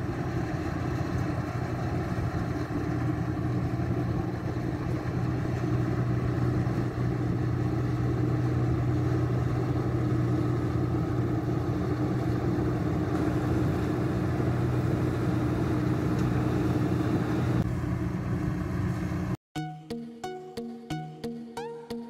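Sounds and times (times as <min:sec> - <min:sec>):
combine harvester running: 0:00.0 - 0:19.4.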